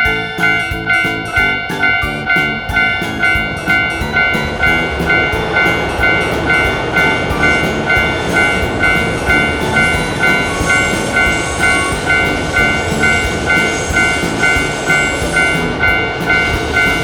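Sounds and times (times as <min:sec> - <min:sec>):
level-crossing warning bell: 0:00.0 - 0:17.0
passing train rumble: 0:00.0 - 0:17.0.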